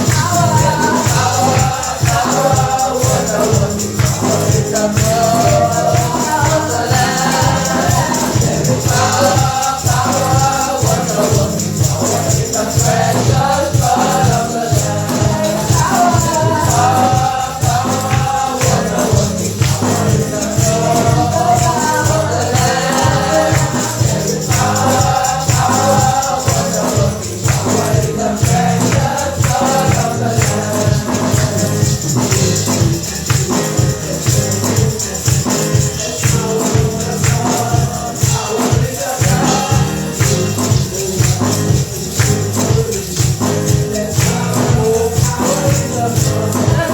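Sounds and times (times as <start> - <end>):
gospel choir singing: 0.0 - 46.9
tambourine shaking: 0.0 - 46.9.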